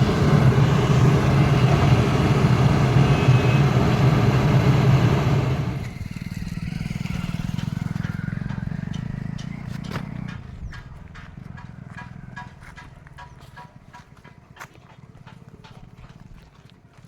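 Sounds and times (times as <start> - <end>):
large engine running: 0.0 - 14.3.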